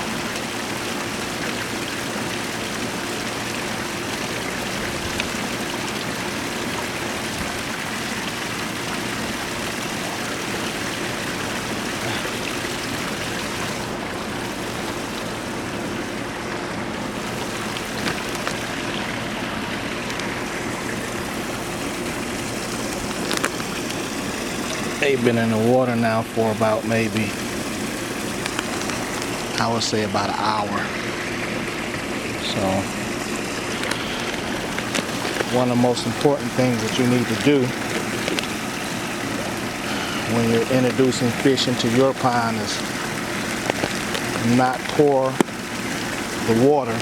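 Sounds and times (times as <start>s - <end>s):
pond water splashing: 0.0s - 47.0s.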